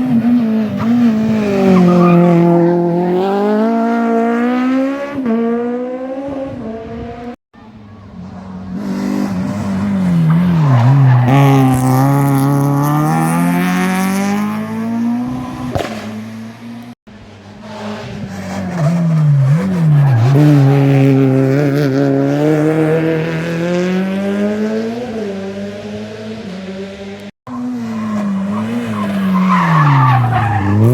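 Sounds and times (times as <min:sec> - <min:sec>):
rally car engine accelerating: 0:00.0 - 0:30.9.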